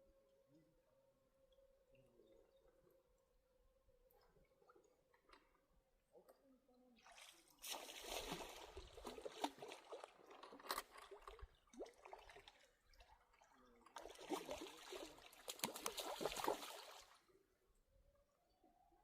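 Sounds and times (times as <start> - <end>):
water splashing and trickling: 1.4 - 18.5.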